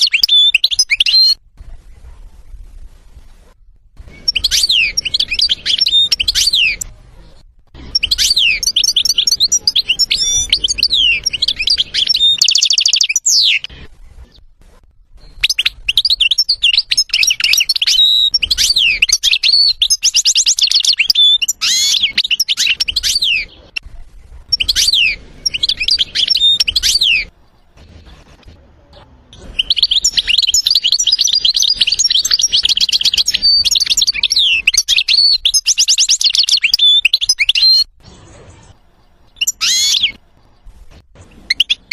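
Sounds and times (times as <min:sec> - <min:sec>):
bird twittering song: 0:00.0 - 0:01.4, 0:04.1 - 0:14.5, 0:15.1 - 0:27.8, 0:29.4 - 0:37.9, 0:38.7 - 0:41.9.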